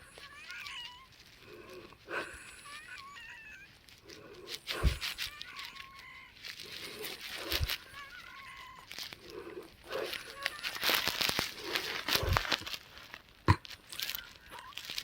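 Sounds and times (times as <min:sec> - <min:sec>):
woman breathing with wheezes: 0:00.0 - 0:13.1.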